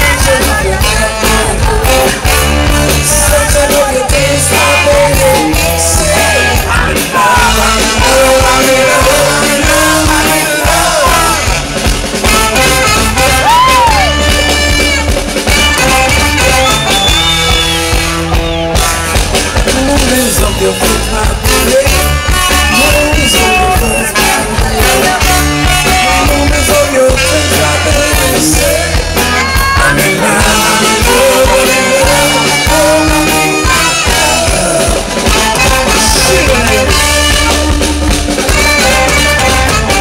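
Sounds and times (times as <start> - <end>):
man singing into a microphone: 0.0 - 11.7, 19.6 - 40.0
drums: 0.0 - 40.0
electric guitar: 0.0 - 40.0
heavy bass: 0.0 - 40.0.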